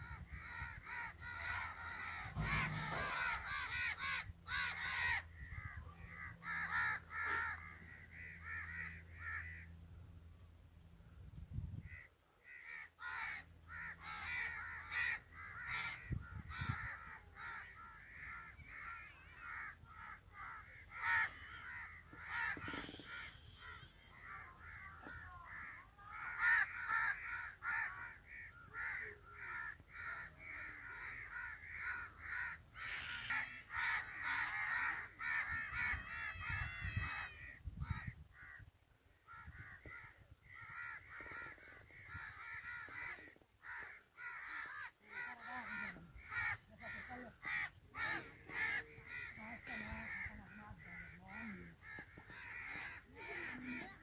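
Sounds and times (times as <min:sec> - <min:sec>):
flock of birds calling: 0:00.0 - 0:09.8, 0:11.8 - 0:54.0.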